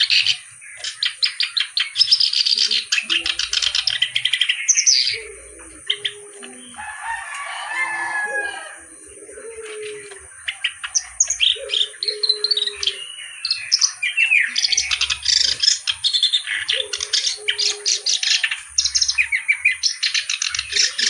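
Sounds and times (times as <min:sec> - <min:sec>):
reed warbler singing: 0:00.0 - 0:06.8, 0:08.9 - 0:21.0
lower bird notes: 0:02.4 - 0:21.0.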